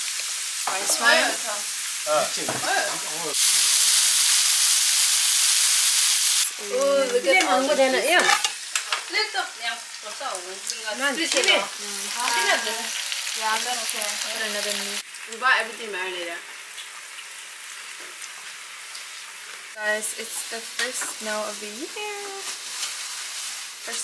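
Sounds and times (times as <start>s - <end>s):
food sizzling on a grill: 0.0s - 24.0s.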